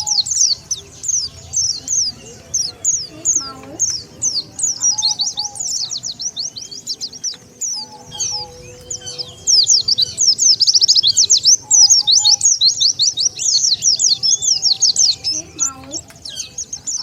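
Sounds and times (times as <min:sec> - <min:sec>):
bird trill: 0:00.0 - 0:17.0
white-eyes chattering high chirps: 0:00.0 - 0:17.0.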